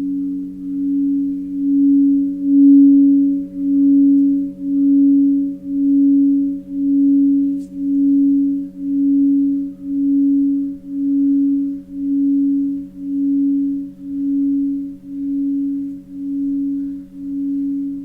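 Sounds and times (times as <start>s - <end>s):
singing bowls droning: 0.0s - 18.0s.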